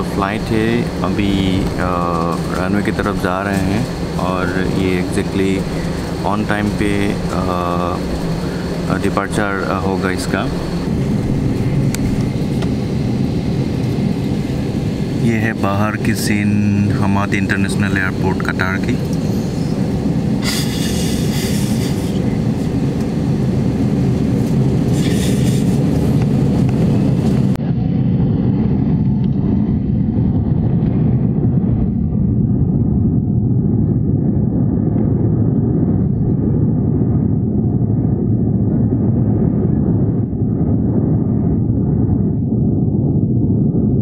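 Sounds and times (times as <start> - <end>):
airliner jet engine rumble in cabin: 0.0 - 44.0.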